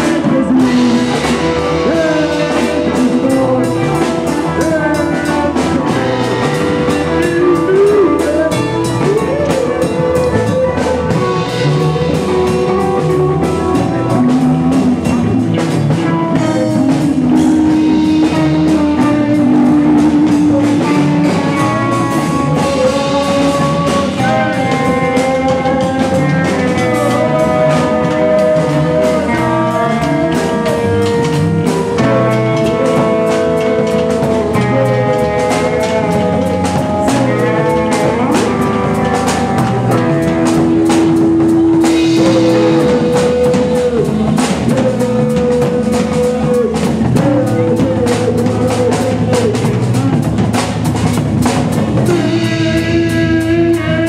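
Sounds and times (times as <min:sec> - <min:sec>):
bass guitar: 0:00.0 - 0:54.0
drum kit with cymbals: 0:00.0 - 0:54.0
electric guitars bending notes: 0:00.0 - 0:54.0.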